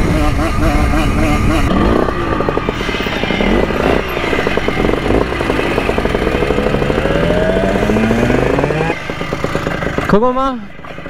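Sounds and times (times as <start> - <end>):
moped engine revving: 0.0 - 11.0.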